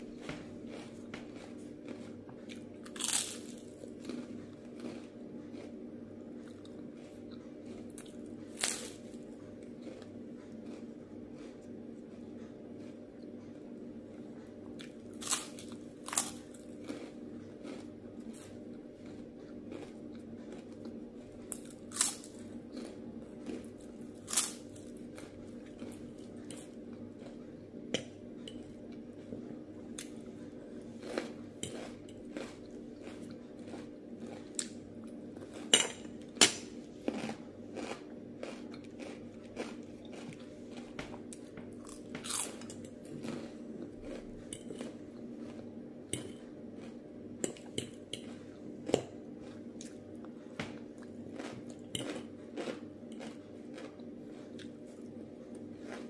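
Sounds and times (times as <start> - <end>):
chewing and crunching vegetables: 0.0 - 56.0
steady low hum: 0.0 - 56.0.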